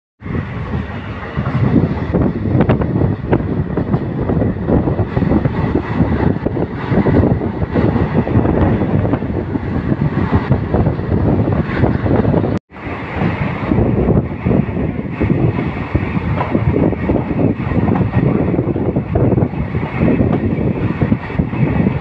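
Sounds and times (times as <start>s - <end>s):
train wheels rolling on rails: 0.2s - 22.0s
wind buffeting microphone: 0.2s - 22.0s.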